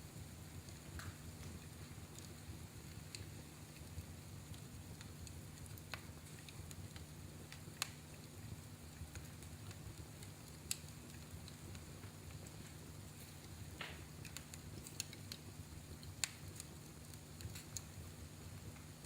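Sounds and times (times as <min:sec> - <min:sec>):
wood fire crackling: 0:00.0 - 0:19.0
fire pops and cracks: 0:00.6 - 0:19.0.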